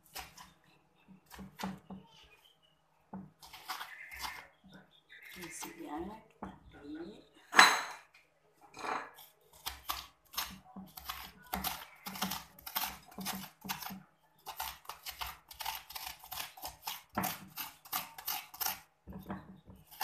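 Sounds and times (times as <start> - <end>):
spoon scraping melon pulp: 0.0 - 2.4, 3.2 - 6.6, 9.0 - 20.0.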